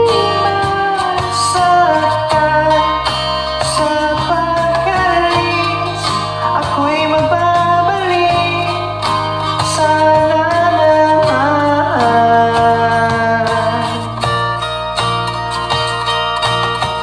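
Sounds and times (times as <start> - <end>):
woman singing karaoke: 0.0 - 14.9
pop-rock backing track: 0.0 - 17.0.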